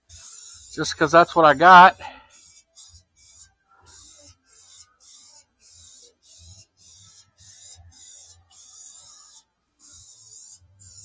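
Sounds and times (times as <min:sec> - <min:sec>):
aerosol spray can hissing: 0:00.0 - 0:01.7, 0:02.3 - 0:11.0.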